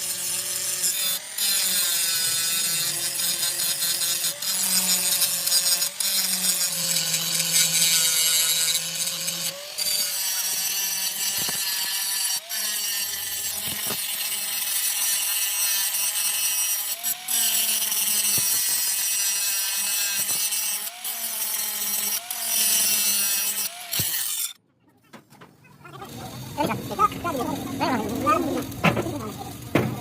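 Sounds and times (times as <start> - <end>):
power tool grinding metal: 0.0 - 24.6, 25.8 - 30.0.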